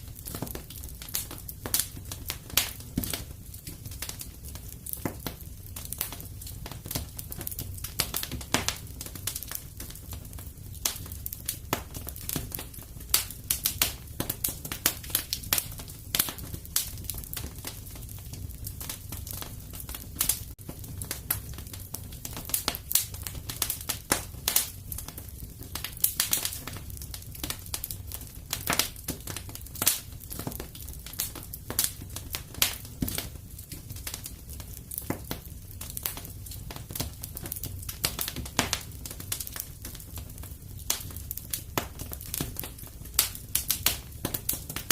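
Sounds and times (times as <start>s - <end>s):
low rumble of flames: 0.0s - 44.9s
wood fire crackling: 0.0s - 44.9s.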